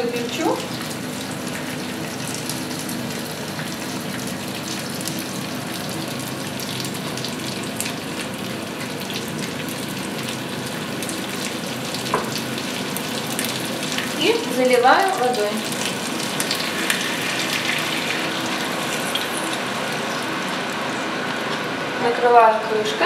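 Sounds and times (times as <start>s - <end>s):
fat and onion sizzling in a pan: 0.0s - 22.1s.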